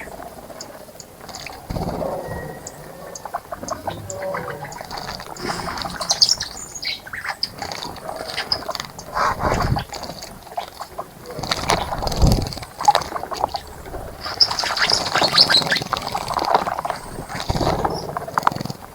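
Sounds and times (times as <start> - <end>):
birds splashing in water: 0.0 - 18.9
birds chirping and squawking: 1.0 - 10.0, 11.5 - 18.1.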